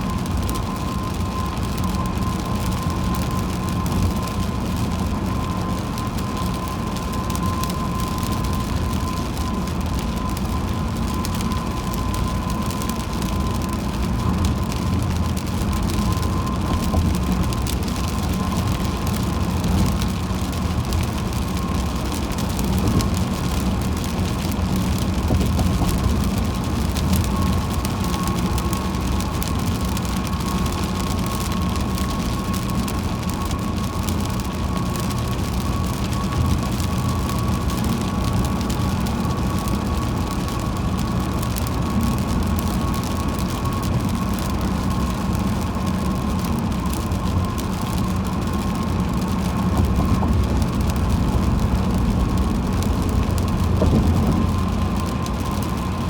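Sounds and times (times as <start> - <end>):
rain hitting car: 0.0 - 56.0
tyre rumble on wet road: 0.0 - 56.0.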